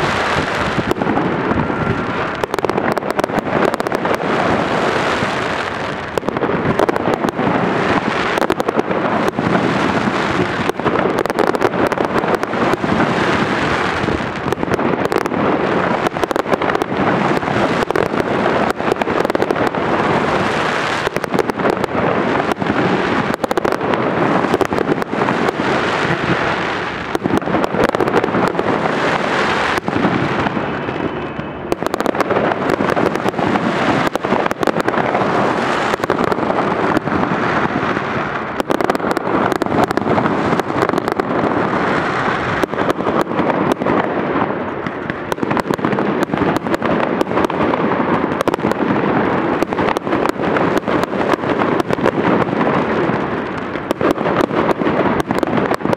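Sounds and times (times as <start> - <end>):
fireworks bursting and crackling: 0.0 - 55.9.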